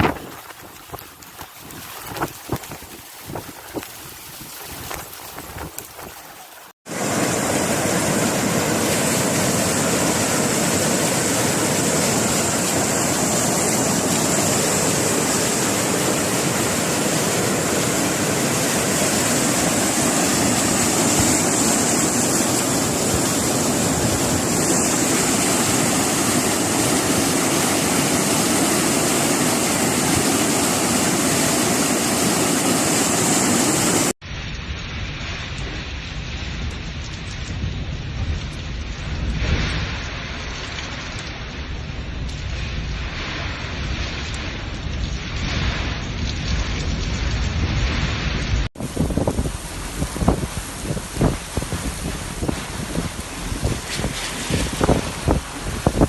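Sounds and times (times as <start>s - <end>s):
dull wash of water: 0.0s - 34.2s, 38.2s - 56.0s
rain water rushing: 0.0s - 56.0s.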